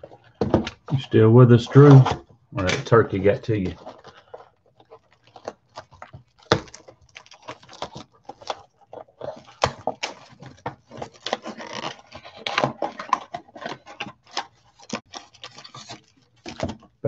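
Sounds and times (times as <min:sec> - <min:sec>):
cardboard box clicks and rustles: 0:01.8 - 0:17.0.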